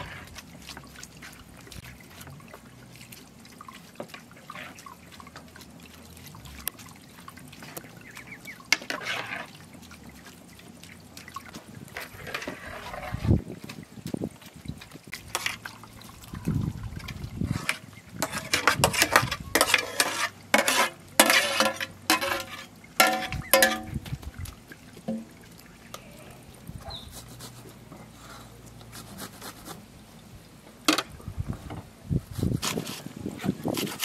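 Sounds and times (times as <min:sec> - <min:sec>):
wet squelches and splats: 0:00.0 - 0:30.5.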